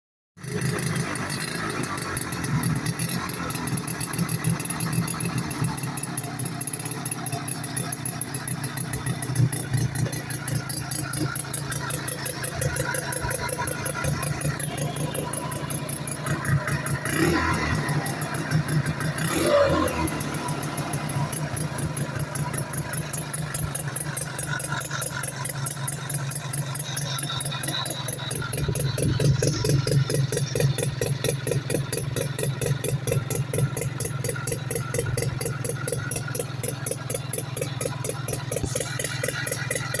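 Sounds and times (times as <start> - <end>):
motorcycle engine running and revving: 0.4 - 40.0.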